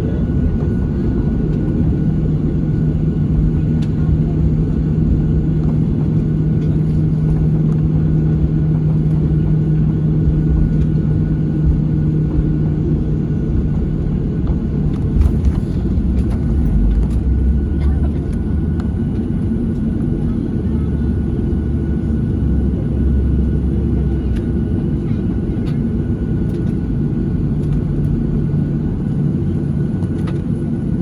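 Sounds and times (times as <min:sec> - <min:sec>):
jet engine rumble in cabin: 0:00.0 - 0:31.0.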